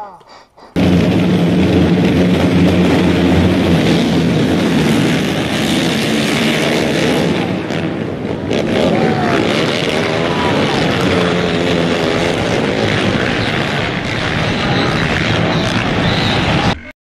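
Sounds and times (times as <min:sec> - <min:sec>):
quad engines revving: 0:00.8 - 0:16.9.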